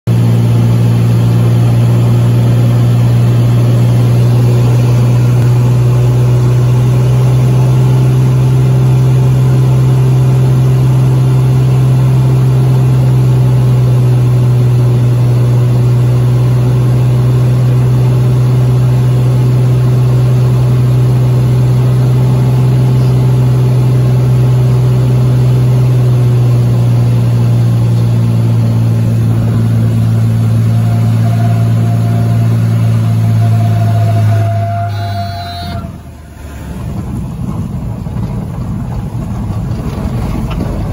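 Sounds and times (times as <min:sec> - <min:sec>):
aircraft engine and propeller droning: 0:00.1 - 0:40.9.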